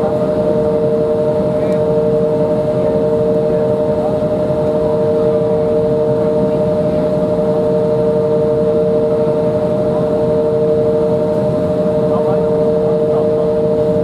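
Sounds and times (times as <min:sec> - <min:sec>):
aircraft cabin air rush: 0:00.0 - 0:14.0
jet engine hum: 0:00.0 - 0:14.0.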